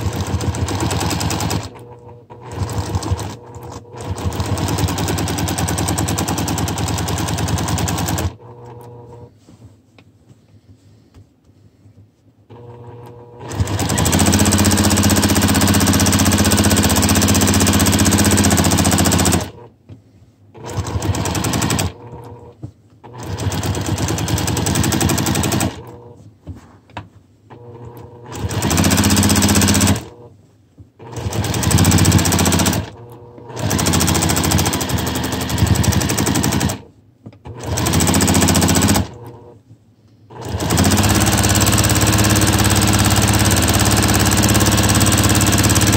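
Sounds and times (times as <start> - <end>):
sewing machine stitching fast: 0.0 - 9.3, 12.5 - 19.7, 20.6 - 26.2, 27.5 - 30.3, 31.0 - 36.9, 37.5 - 39.6, 40.3 - 45.9.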